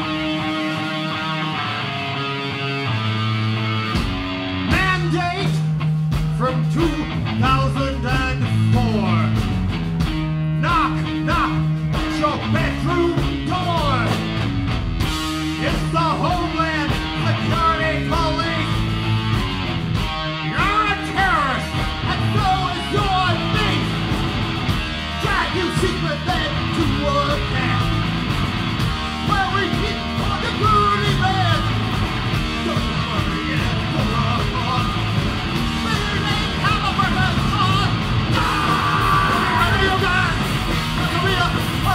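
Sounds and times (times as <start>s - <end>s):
punk rock band playing: 0.0s - 41.9s
person shouting and singing: 4.6s - 9.6s, 10.6s - 14.4s, 15.4s - 19.1s, 20.4s - 41.9s.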